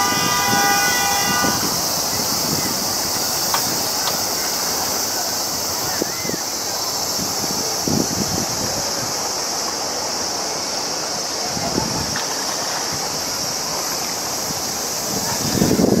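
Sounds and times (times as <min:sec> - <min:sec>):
constant high-pitched hiss: 0:00.0 - 0:16.0
wind and water hiss: 0:00.0 - 0:16.0.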